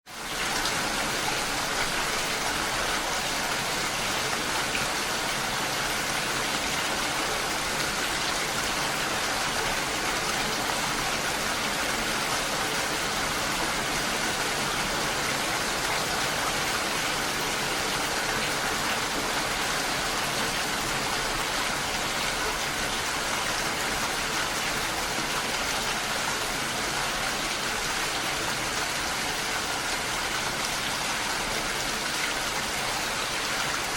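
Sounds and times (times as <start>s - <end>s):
rain falling on leaves: 0.1s - 33.9s.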